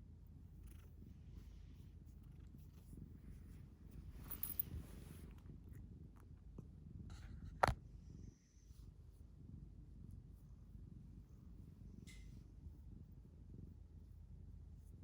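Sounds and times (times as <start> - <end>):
cat purring: 0.1 - 14.9.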